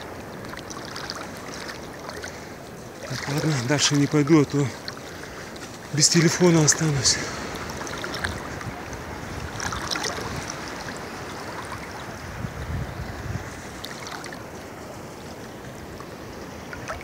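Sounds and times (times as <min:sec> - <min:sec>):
sea water lapping and sloshing: 0:00.0 - 0:17.0
small splashes: 0:00.0 - 0:17.0
surf wash: 0:00.0 - 0:17.0.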